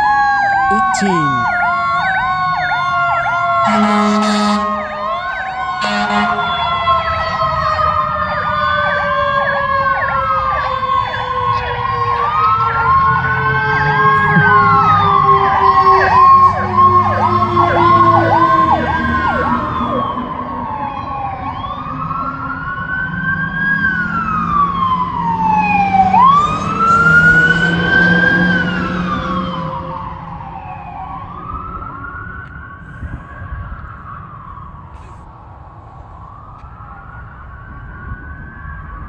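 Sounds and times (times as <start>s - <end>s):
fire truck siren wailing: 0.0s - 34.9s, 35.7s - 39.0s.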